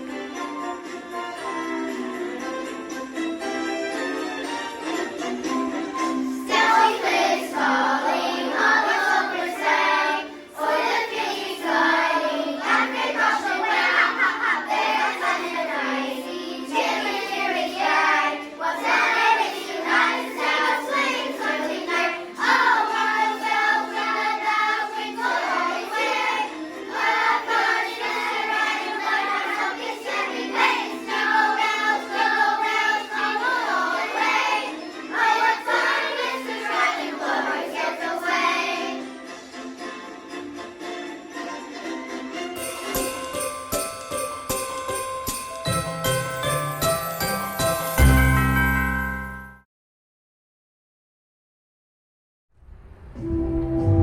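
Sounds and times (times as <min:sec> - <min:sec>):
instrumental accompaniment: 0:00.0 - 0:37.4, 0:38.5 - 0:49.6
children's choir singing: 0:00.0 - 0:43.3.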